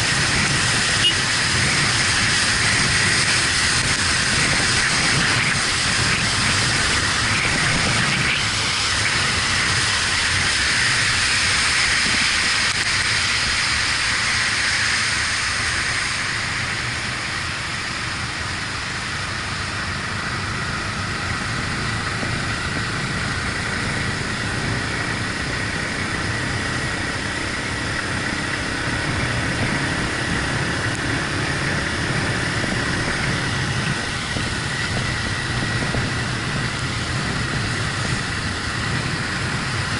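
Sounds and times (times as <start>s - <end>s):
wind rushing: 0.0s - 18.3s, 19.8s - 39.9s
motorcycle engine running: 0.0s - 39.9s
tyres hissing on wet road: 0.0s - 39.9s.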